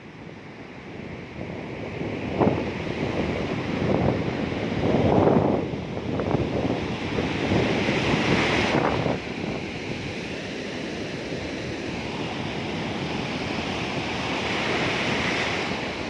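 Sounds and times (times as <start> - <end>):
sea waves surging onto shore: 0.0 - 16.0
wind rumbling on microphone: 0.0 - 16.0.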